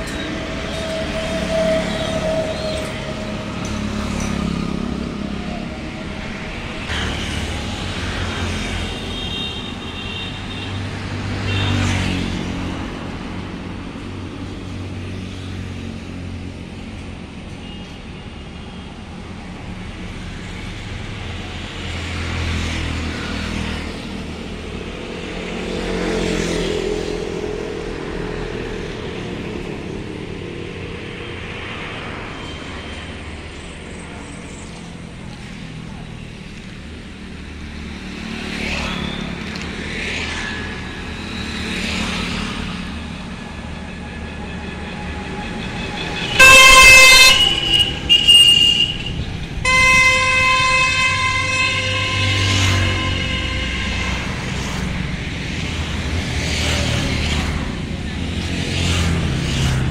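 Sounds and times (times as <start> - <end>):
road traffic hum: 0.0 - 59.9.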